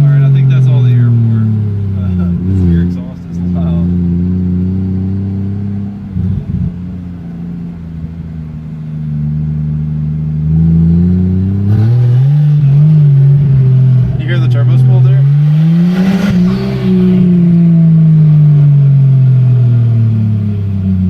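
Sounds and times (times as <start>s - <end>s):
rough engine rattle: 0.0s - 21.0s
turbo car engine pulling: 0.0s - 21.0s.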